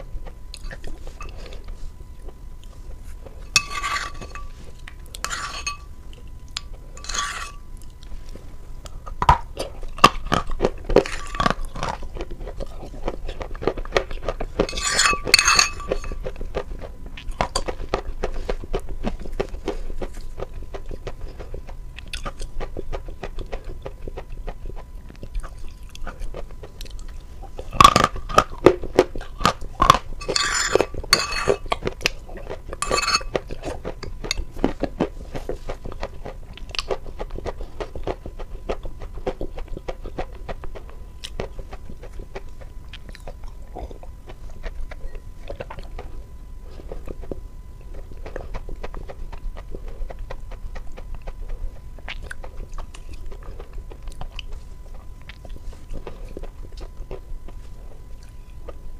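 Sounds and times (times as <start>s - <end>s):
crisp crunching of cake chewing: 0.0s - 58.9s.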